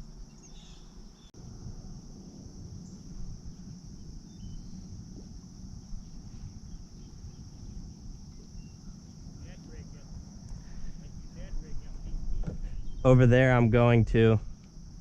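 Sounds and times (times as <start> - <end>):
insects chorus: 0.0 - 15.0
low rumble: 1.4 - 15.0.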